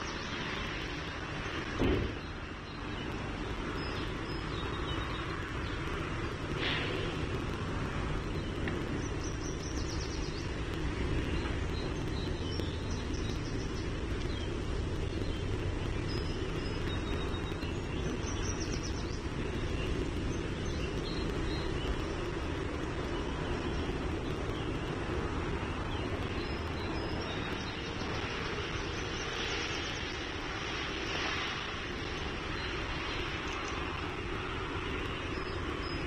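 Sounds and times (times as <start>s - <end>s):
low background rumble: 0.0s - 36.0s.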